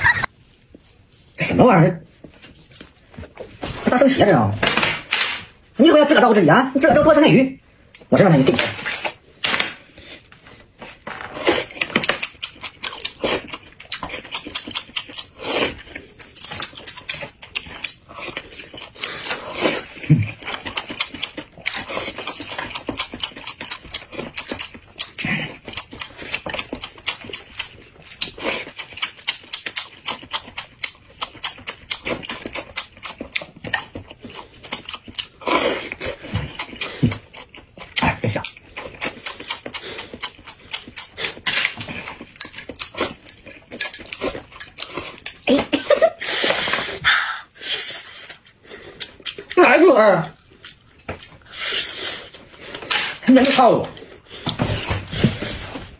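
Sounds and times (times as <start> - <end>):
man chewing and slurping: 0.0 - 3.9, 8.8 - 49.6, 50.4 - 53.2, 53.9 - 55.9.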